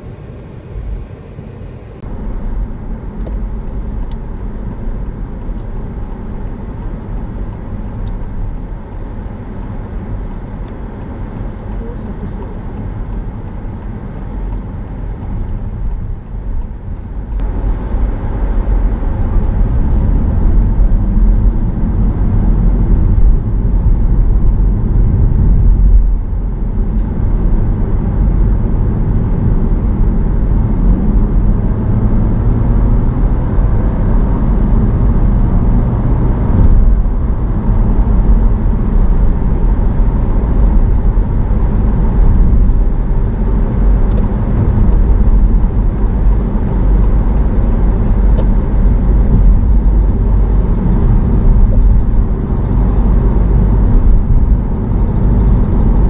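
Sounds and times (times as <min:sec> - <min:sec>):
car road and drive noise: 0:00.0 - 0:56.0.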